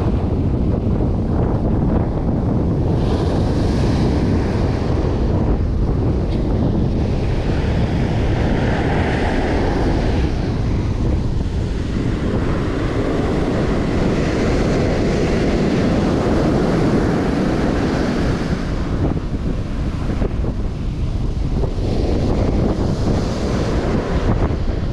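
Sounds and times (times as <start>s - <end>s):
surf breaking on beach: 0.0s - 24.9s
wind buffeting microphone: 0.0s - 24.9s.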